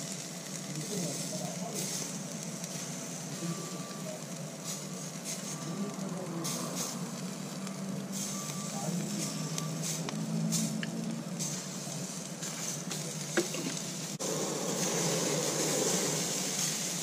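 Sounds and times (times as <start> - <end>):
butter spitting on hot coals: 0.0 - 17.0
seafood sizzling on a grill: 0.0 - 17.0.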